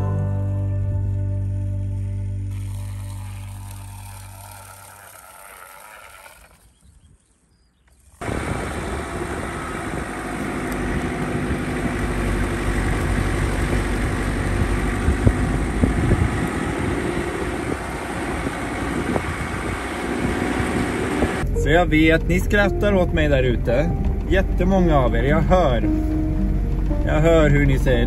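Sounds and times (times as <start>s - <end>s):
vehicle engine running: 0.0s - 6.6s, 8.0s - 28.0s.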